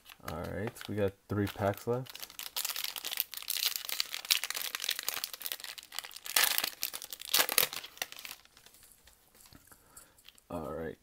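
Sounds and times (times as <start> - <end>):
wrapper tearing and crinkling: 0.0 - 8.9.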